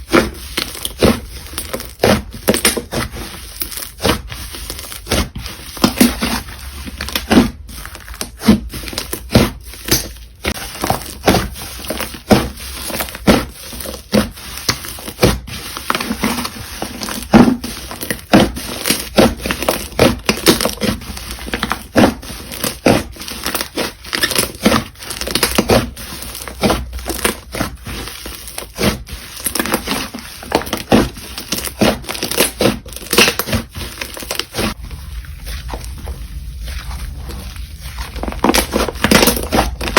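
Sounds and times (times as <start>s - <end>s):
slime crackling and popping: 7.1s - 39.9s.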